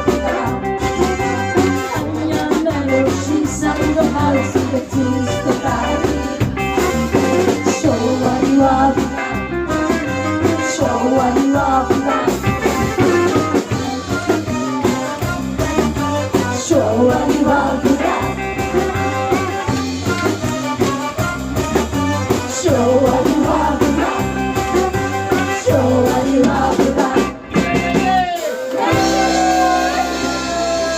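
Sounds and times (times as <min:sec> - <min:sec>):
person singing: 0:00.0 - 0:06.5, 0:07.2 - 0:13.2, 0:16.2 - 0:19.8, 0:22.2 - 0:30.9
live rock and roll band: 0:00.0 - 0:30.9.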